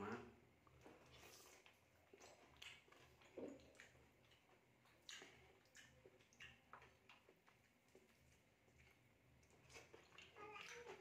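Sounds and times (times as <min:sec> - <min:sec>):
chewing clicks and smacks: 0:00.6 - 0:11.0.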